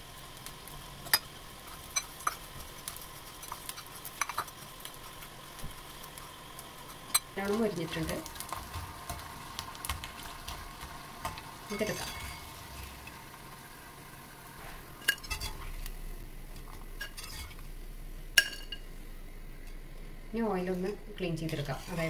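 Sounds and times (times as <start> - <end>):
food deep-frying in hot oil: 0.0 - 22.0.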